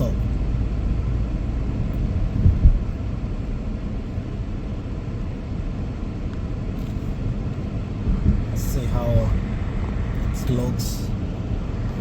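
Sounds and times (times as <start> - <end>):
road and engine rumble inside car: 0.0 - 12.0.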